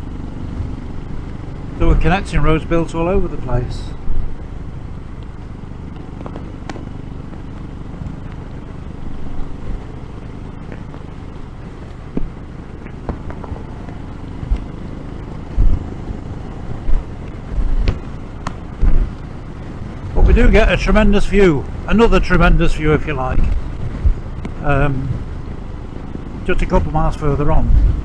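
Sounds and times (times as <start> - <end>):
motorcycle engine running: 0.0 - 28.0
road and wind noise: 0.0 - 28.0
wind buffeting thumps: 0.0 - 28.0.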